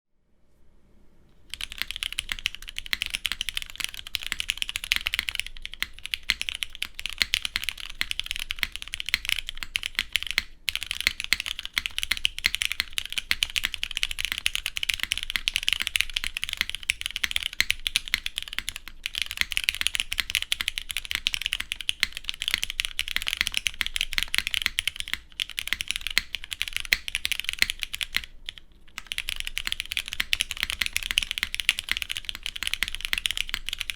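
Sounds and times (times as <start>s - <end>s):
fast mechanical keyboard typing: 1.5s - 33.9s.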